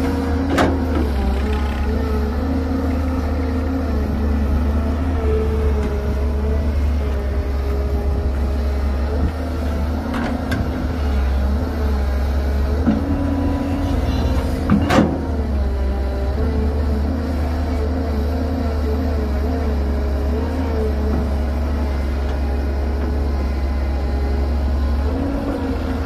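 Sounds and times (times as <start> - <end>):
excavator engine working: 0.0 - 26.0.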